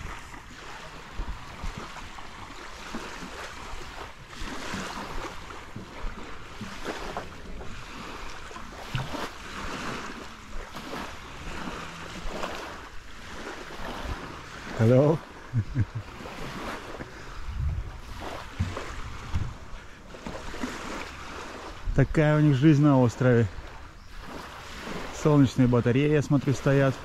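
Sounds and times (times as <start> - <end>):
wind on microphone: 0.0 - 22.2
sea waves washing in: 0.0 - 27.0.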